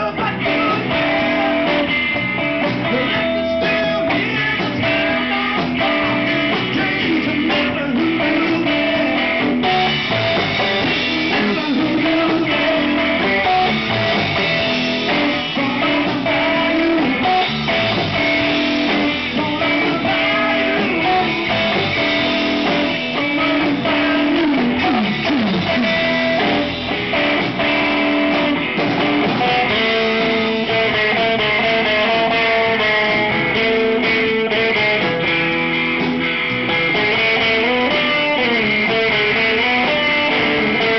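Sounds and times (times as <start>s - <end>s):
bass guitar: 0.0s - 40.9s
drums: 0.0s - 40.9s
electric guitar: 0.0s - 40.9s.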